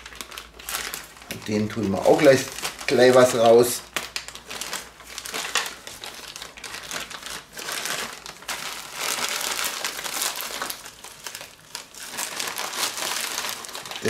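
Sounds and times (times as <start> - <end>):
plastic bag crinkling and rustling: 0.0 - 14.0.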